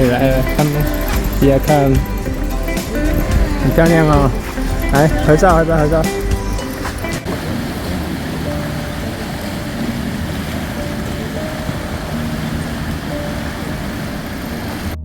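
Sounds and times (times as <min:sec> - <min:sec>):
faint background music: 0:00.0 - 0:15.0
surf: 0:00.0 - 0:15.0
wind: 0:00.0 - 0:15.0.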